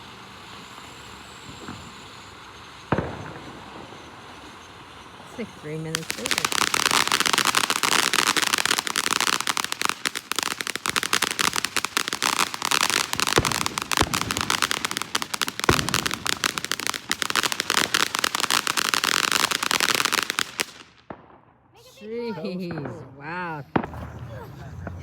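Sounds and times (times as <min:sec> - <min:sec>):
fireworks crackling: 0:00.0 - 0:25.0
loud firework bangs: 0:01.4 - 0:21.8, 0:22.6 - 0:25.0.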